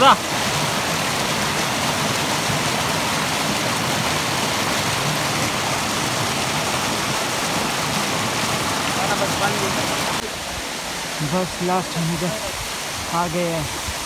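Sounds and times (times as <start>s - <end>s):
stream rushing over boulders: 0.0s - 14.0s.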